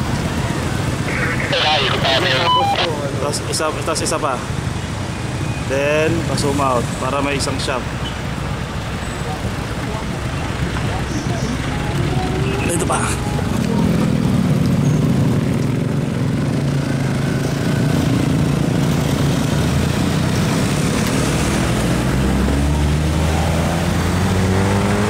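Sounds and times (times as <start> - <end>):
motorcycle engines running: 0.0 - 25.0.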